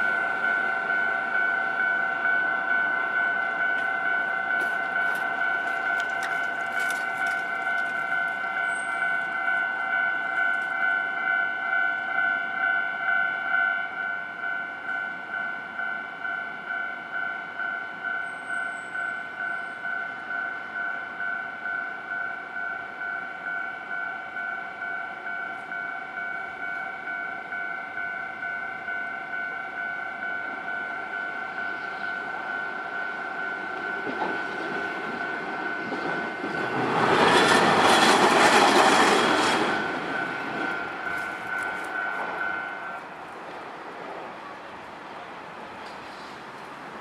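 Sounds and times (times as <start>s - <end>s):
level-crossing alarm ringing: 0.0s - 43.2s
tram rumbling over crossing: 0.0s - 47.0s.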